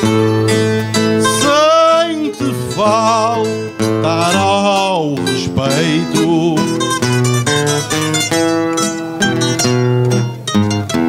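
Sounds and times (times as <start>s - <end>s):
acoustic guitar: 0.0s - 11.0s
string instrument playing: 0.0s - 11.0s.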